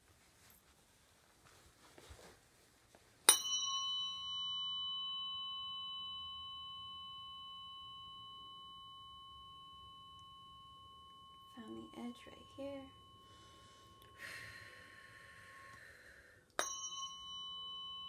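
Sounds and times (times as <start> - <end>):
tuning fork ringing: 3.3 - 18.0.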